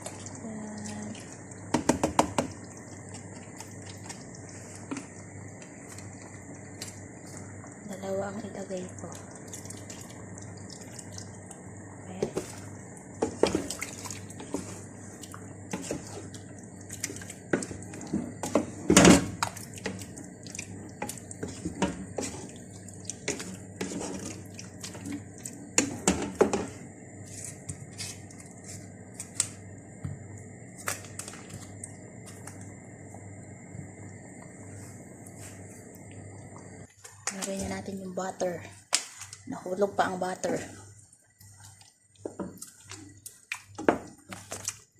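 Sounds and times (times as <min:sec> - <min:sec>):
faint hum: 0:00.0 - 0:44.9.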